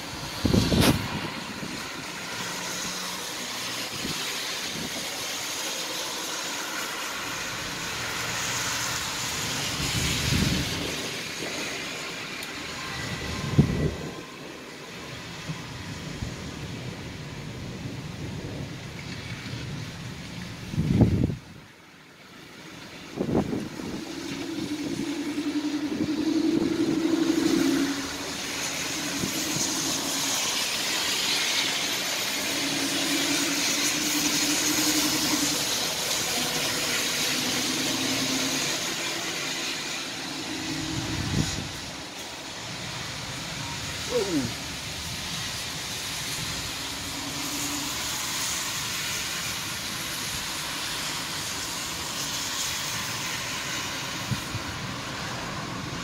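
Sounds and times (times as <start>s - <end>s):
thunder rumbling: 0.0s - 5.2s, 7.5s - 21.7s, 22.7s - 48.8s
rain hissing: 0.0s - 56.0s.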